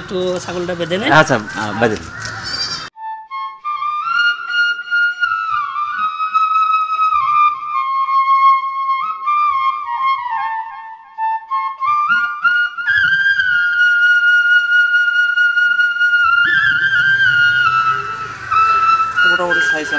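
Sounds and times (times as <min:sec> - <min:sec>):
flute-like melody: 0:02.6 - 0:19.9.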